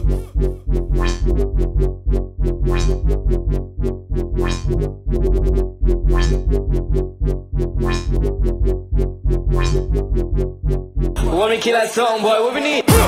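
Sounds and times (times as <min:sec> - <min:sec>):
electronic dance music: 0:00.0 - 0:08.9, 0:11.2 - 0:13.0
rising synth sweep: 0:00.0 - 0:11.2.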